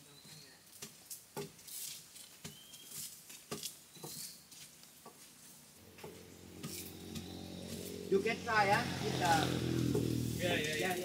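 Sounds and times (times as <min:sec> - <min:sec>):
leafy branches rustling: 0:01.6 - 0:11.0.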